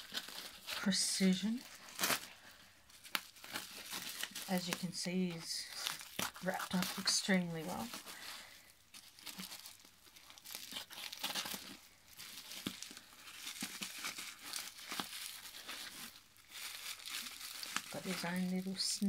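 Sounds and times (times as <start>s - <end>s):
plastic wrap crinkling: 0.0s - 19.0s.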